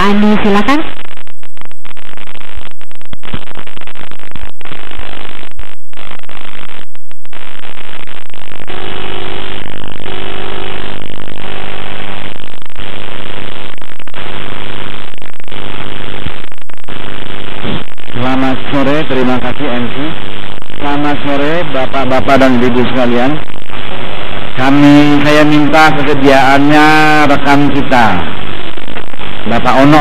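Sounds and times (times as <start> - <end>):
harsh static noise: 0.0 - 30.0.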